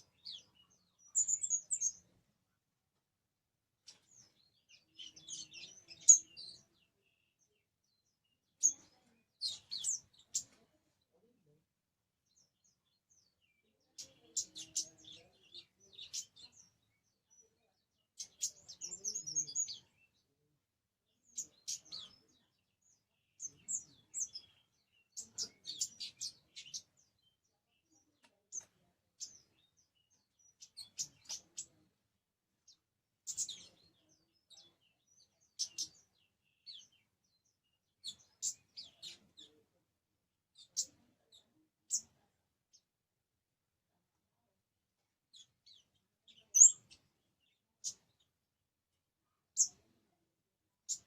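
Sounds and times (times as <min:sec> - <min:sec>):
songbird chirping: 0:00.0 - 0:51.0.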